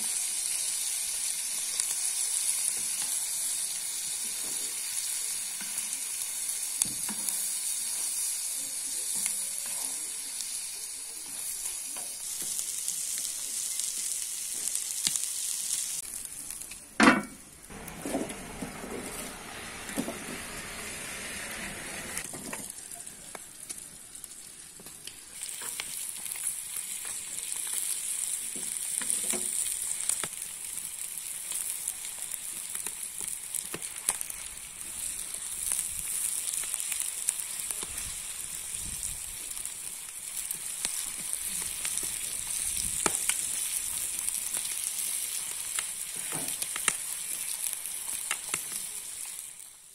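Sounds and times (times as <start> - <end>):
meat and onions sizzling: 0.0 - 49.9.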